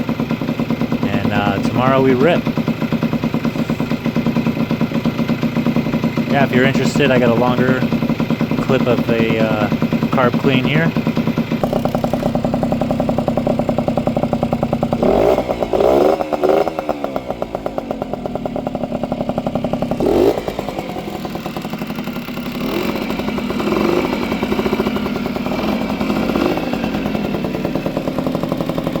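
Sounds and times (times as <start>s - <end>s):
two-stroke engine idling: 0.0s - 29.0s.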